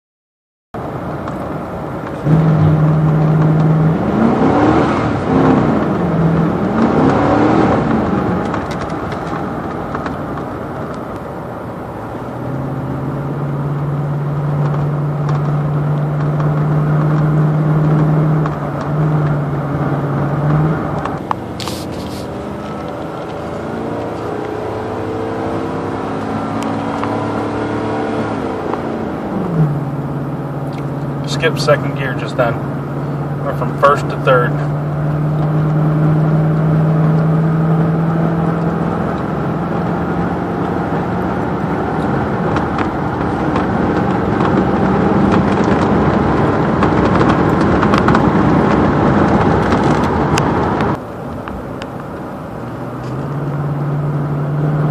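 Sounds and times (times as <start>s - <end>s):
pickup engine shifting gears: 0.8s - 54.9s.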